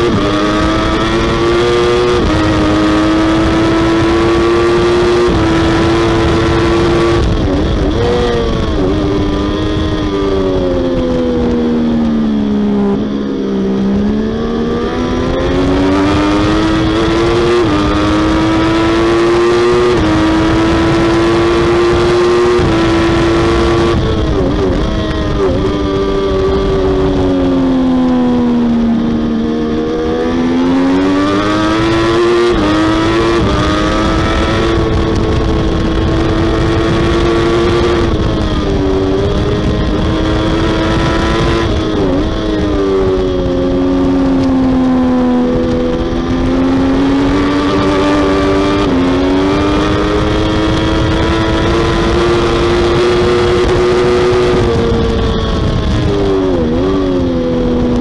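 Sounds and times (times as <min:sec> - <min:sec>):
motorcycle engine racing: 0:00.0 - 0:58.0.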